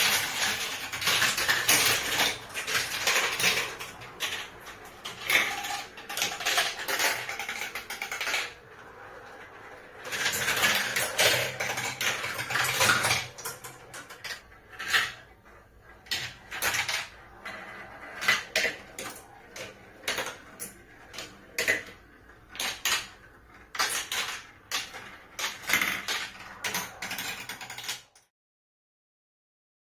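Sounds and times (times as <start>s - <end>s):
marbles clicking on track: 0.0s - 28.2s
marbles rattling through plastic tracks: 0.0s - 28.3s.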